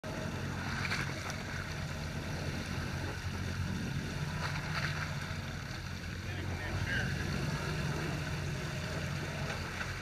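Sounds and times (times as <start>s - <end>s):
boat engine running: 0.0s - 10.0s
water rushing: 0.0s - 10.0s.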